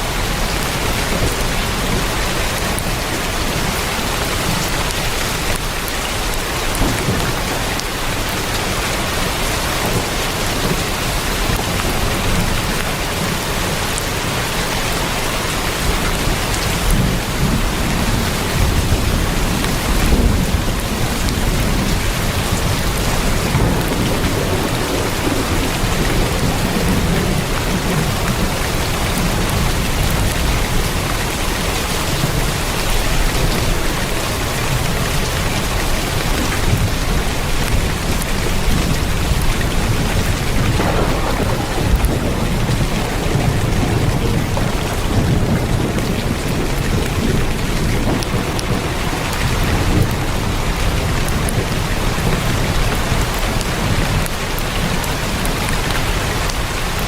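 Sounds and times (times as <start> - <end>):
heavy rain on a tin roof: 0.0 - 57.0
thunder rumbling: 0.0 - 57.0.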